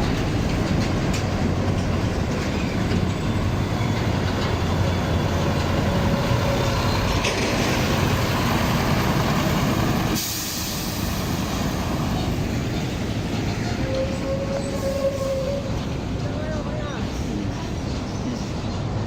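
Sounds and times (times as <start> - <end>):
heavy trucks rumbling past: 0.0 - 16.5.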